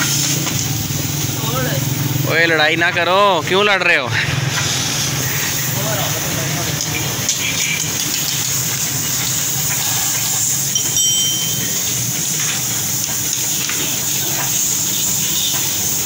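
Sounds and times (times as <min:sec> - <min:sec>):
water jet spraying: 0:00.0 - 0:16.0.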